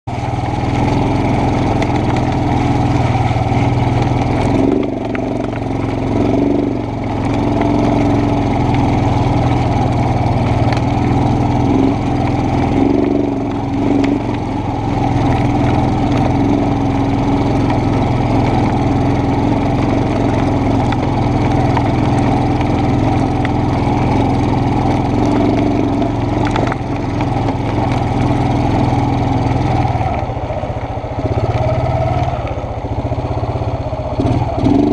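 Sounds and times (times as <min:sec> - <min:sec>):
atv engine running: 0:00.1 - 0:34.9.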